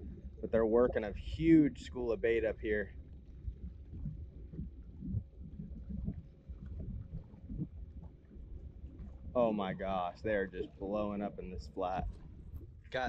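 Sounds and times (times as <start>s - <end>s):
steady low rumble: 0.0s - 13.0s
water lapping around boat: 0.0s - 13.0s.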